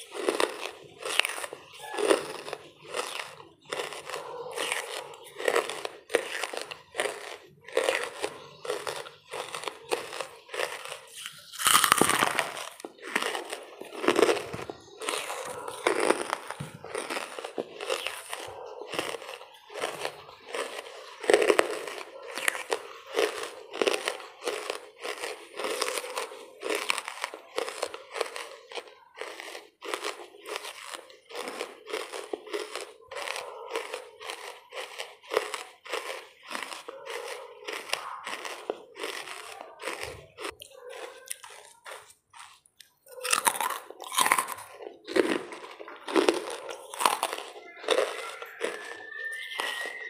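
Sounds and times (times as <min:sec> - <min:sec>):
crunchy chewing: 0:00.0 - 0:50.0.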